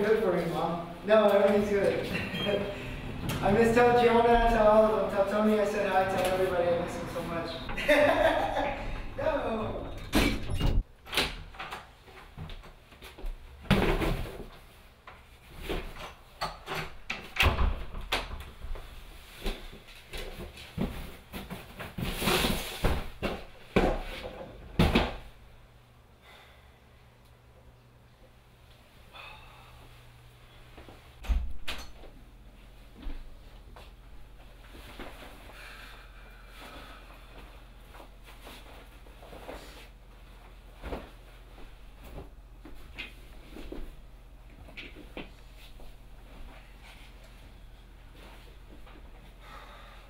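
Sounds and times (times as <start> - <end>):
faint room hum: 0.0 - 50.0.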